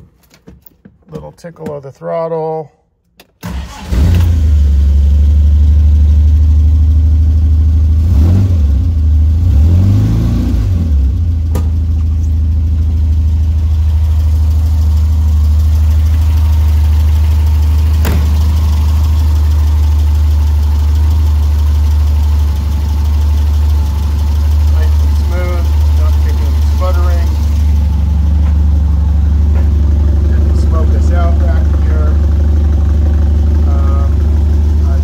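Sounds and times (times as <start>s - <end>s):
car engine revving and idling: 3.7s - 35.0s.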